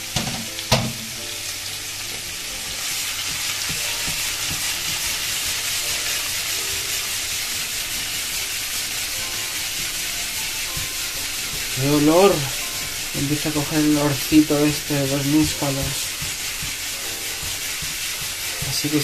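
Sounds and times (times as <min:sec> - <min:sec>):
mushrooms sizzling in a pan: 0:00.0 - 0:19.0.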